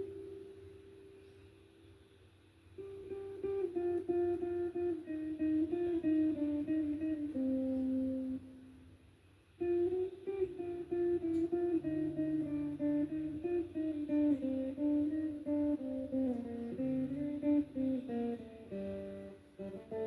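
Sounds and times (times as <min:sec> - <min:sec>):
guitar melody: 0:00.0 - 0:20.0.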